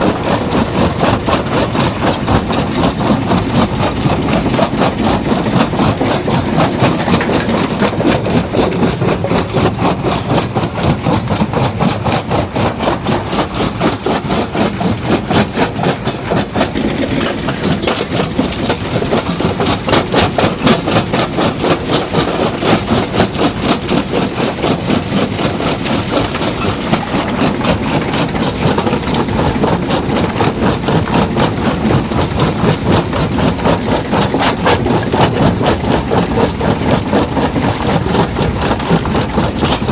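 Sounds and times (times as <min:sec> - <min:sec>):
stone crusher machine running: 0:00.0 - 0:39.9.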